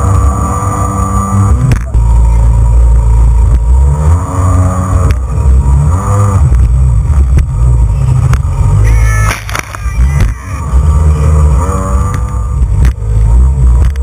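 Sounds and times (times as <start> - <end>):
jet ski engine rumbling: 0.0 - 14.0.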